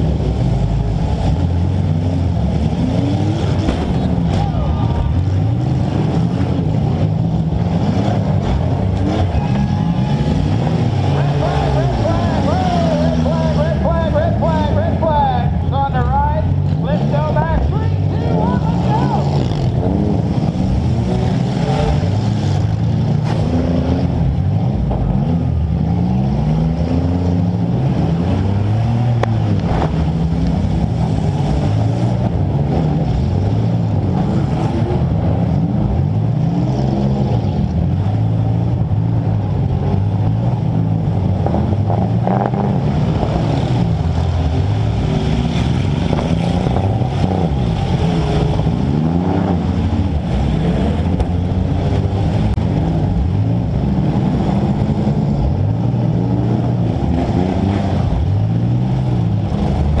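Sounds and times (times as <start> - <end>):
car engine revving: 0.0 - 60.0.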